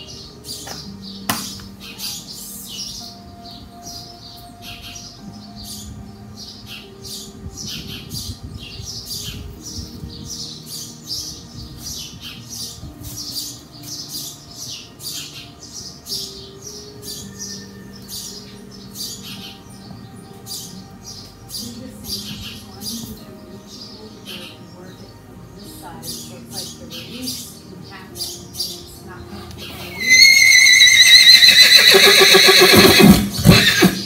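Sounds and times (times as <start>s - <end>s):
small birds chirping rapidly: 0.0s - 34.0s.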